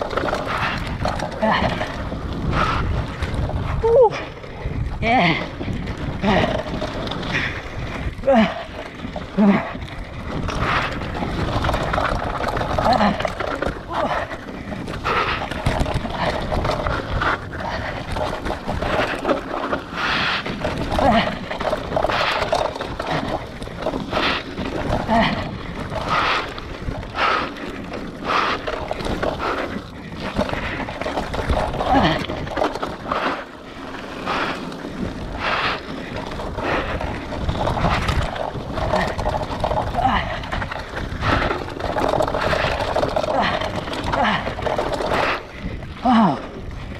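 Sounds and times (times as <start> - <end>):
wind on microphone: 0.0 - 33.4, 34.0 - 46.9
bike frame rattling over bumps: 0.0 - 46.9
bike tyres on dirt: 0.0 - 46.9.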